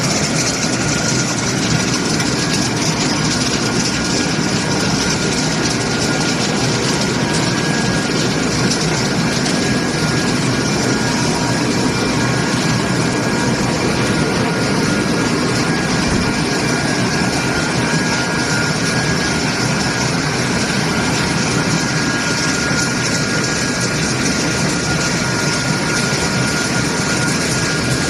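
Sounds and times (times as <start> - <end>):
high even machine whine: 0.0 - 28.0
loud steady machine drone: 0.0 - 28.0.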